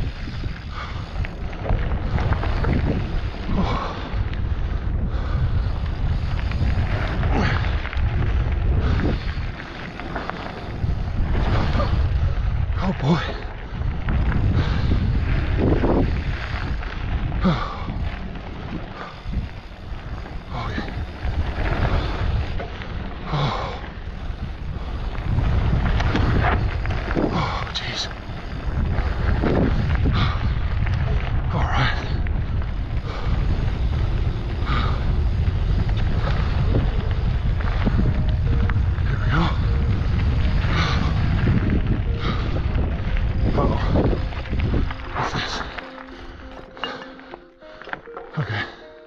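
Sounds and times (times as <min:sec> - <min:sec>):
wind buffeting microphone: 0:00.0 - 0:47.2
bike rattling and clicking: 0:00.0 - 0:49.0
tyres crunching over dirt and rocks: 0:00.0 - 0:49.0.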